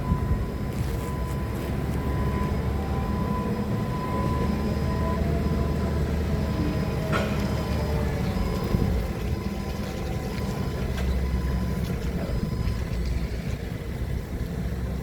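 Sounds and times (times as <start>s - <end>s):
forklift engine rumbling: 0.0s - 15.0s.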